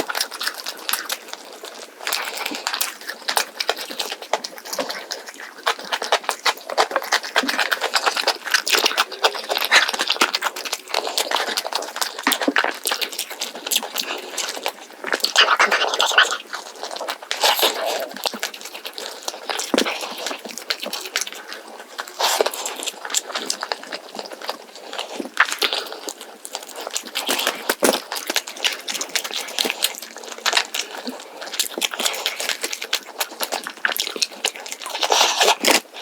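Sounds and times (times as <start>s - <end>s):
crisp chewing and crackles: 0.0s - 36.0s.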